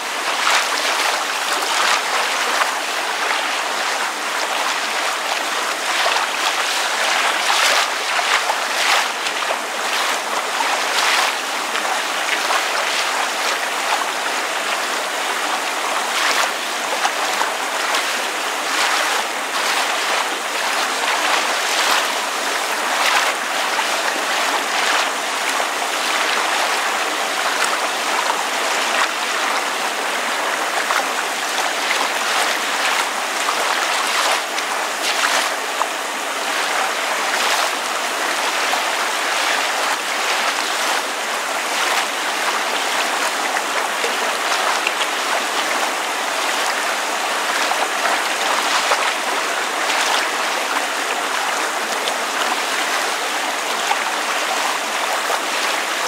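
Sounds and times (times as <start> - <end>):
water lapping and splashing: 0.0 - 56.0.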